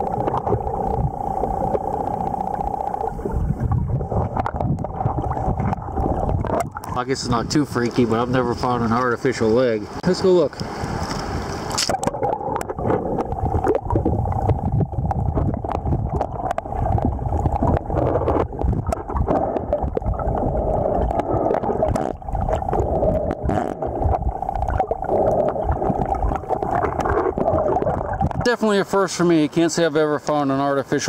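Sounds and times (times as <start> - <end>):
muffled underwater river rumble: 0.0 - 9.6, 10.8 - 28.6.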